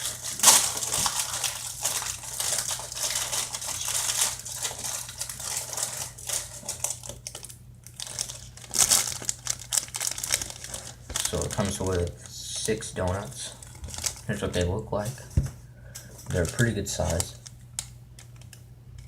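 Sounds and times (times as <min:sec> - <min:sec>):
plastic wrapper crinkling: 0:00.0 - 0:14.8, 0:16.2 - 0:18.6.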